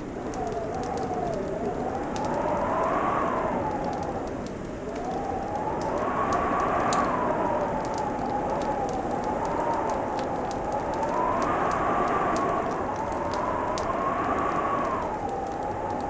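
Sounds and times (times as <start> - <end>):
howling wind: 0.0 - 16.0.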